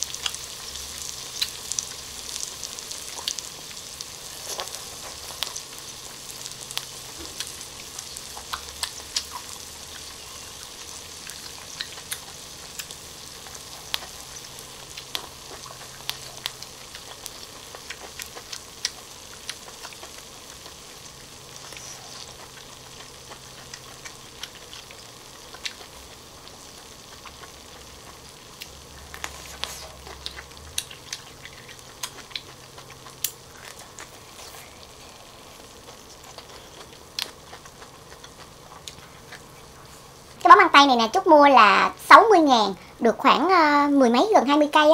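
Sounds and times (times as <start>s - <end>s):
sharp crackles and clicks: 0.0s - 40.9s
food sizzling on a grill pan: 0.0s - 42.8s
chewing and crunching: 0.1s - 20.9s, 21.6s - 26.3s, 27.0s - 40.4s.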